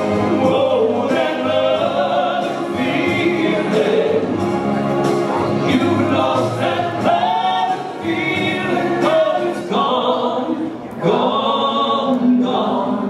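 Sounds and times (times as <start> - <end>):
two men singing a soul ballad: 0.0 - 4.4, 5.4 - 13.0
backing music: 0.0 - 13.0.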